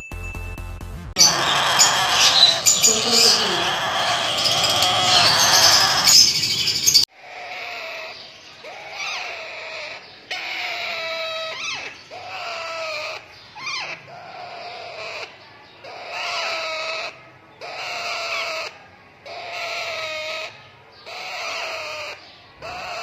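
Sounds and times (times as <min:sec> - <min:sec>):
parrot chicks calling: 0:01.2 - 0:23.0.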